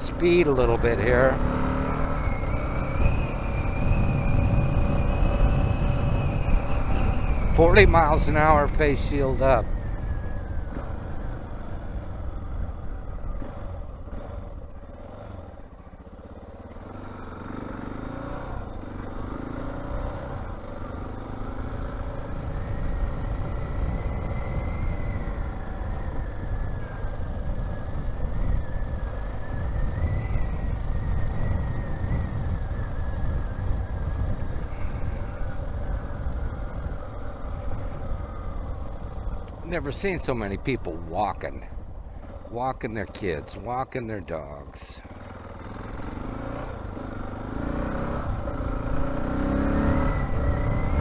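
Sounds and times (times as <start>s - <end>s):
wind rumble on microphone: 0.0s - 15.8s, 18.0s - 43.9s, 44.6s - 51.0s
motorcycle engine running: 0.0s - 51.0s.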